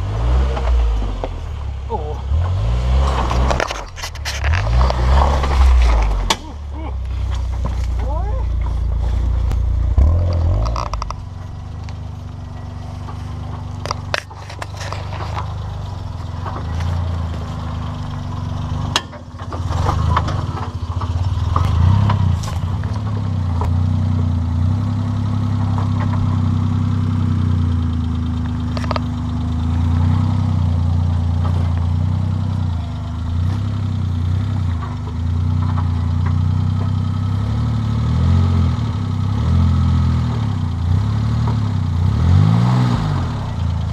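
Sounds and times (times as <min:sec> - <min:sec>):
small engine running at low revs: 0:00.0 - 0:43.9.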